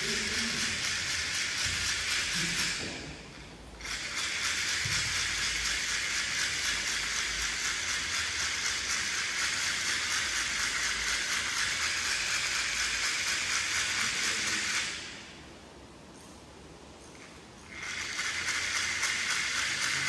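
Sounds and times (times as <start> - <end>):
hand winder whirring and ticking: 0.0 - 2.8, 3.8 - 15.1, 17.7 - 20.0.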